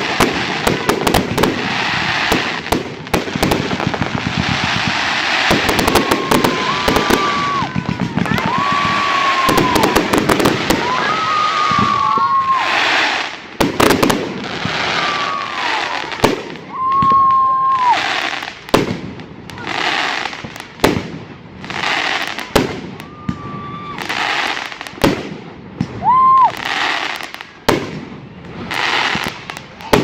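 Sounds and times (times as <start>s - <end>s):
fireworks bangs: 0.0s - 30.0s
fireworks crackling hiss: 0.0s - 30.0s.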